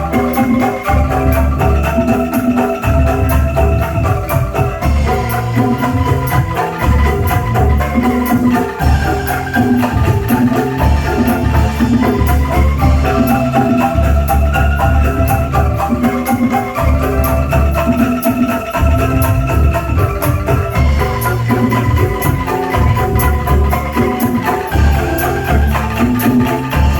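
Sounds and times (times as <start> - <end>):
angklung ensemble melody: 0.0 - 26.9
fast ticking percussion beat: 0.0 - 26.9
heavy pulsing bass: 0.8 - 18.0, 18.8 - 26.9.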